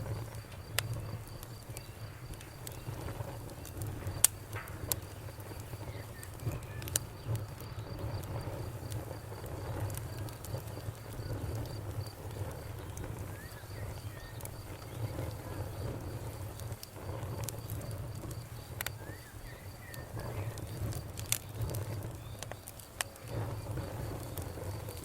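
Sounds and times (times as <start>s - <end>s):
campfire crackling and popping: 0.0s - 25.0s
insect chirping: 0.0s - 25.0s.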